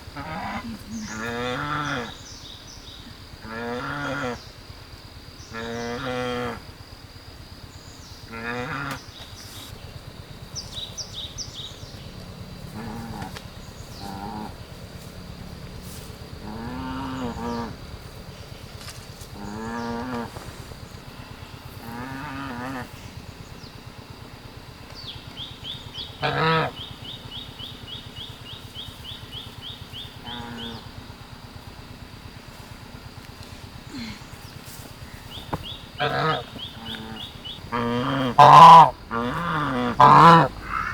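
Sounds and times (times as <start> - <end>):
farm animal calling: 0.0 - 4.6, 5.4 - 6.6, 8.3 - 9.7, 10.5 - 23.7, 25.0 - 31.0, 33.9 - 40.9
high insect whine: 0.0 - 40.9.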